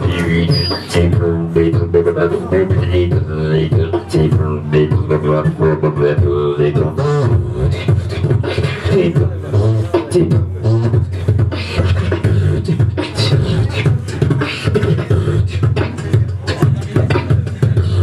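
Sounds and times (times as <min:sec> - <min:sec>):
beatboxing into microphone: 0:00.0 - 0:18.0.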